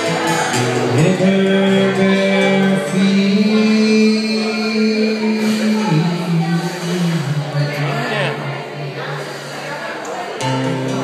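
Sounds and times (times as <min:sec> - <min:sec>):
person singing wordless notes: 0:00.0 - 0:09.2
strummed acoustic guitars: 0:00.0 - 0:11.0.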